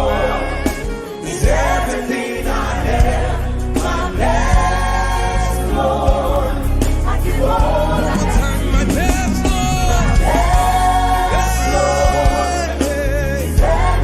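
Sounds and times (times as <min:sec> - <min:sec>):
bass accompaniment: 0:00.0 - 0:14.0
choir singing: 0:00.0 - 0:14.0.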